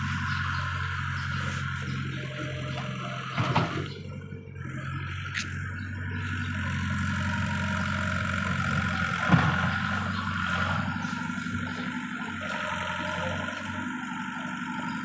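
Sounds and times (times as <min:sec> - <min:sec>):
diesel earthmoving machine running: 0:00.0 - 0:15.0.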